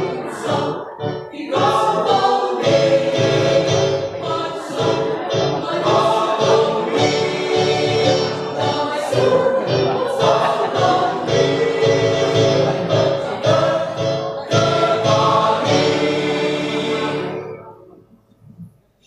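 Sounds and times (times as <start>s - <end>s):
mixed choir singing a march: 0.0s - 17.7s.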